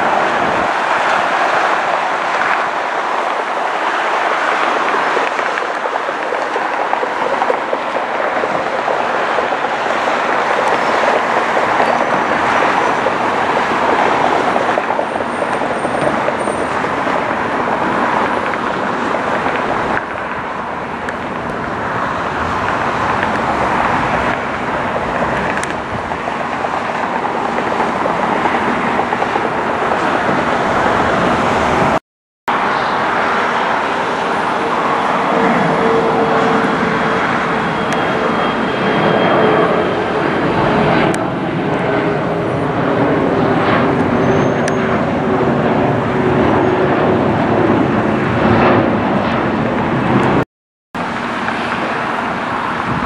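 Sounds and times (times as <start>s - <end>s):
steady engine whine: 0.0s - 50.4s, 51.0s - 53.0s
jet engines roaring: 0.0s - 53.0s.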